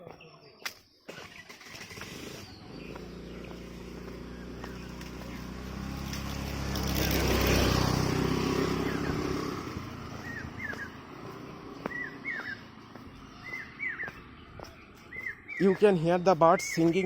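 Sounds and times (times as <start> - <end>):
motor vehicle passing: 1.1 - 17.0
bird chirping: 2.2 - 17.0.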